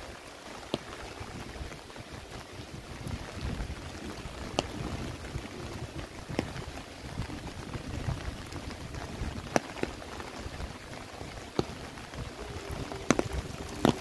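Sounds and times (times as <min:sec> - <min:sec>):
light rain on vegetation: 0:00.0 - 0:14.0
raindrops clicking: 0:00.0 - 0:14.0.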